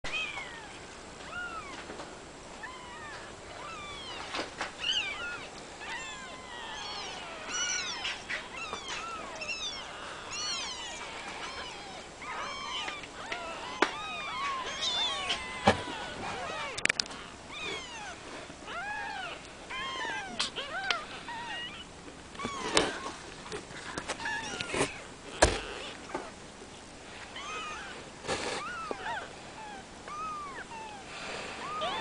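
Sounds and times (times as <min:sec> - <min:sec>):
kittens mewing: 0:00.1 - 0:01.9, 0:02.6 - 0:23.2, 0:24.0 - 0:26.3, 0:27.3 - 0:32.0.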